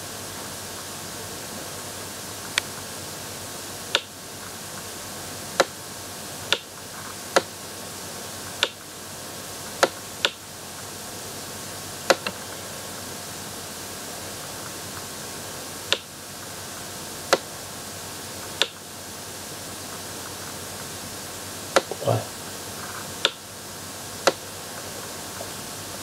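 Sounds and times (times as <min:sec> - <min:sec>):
microphone hiss: 0:00.0 - 0:26.0.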